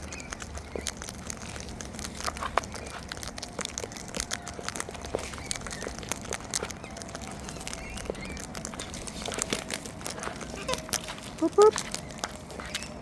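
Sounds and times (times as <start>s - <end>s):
birds cracking seeds with beaks: 0.0s - 13.0s.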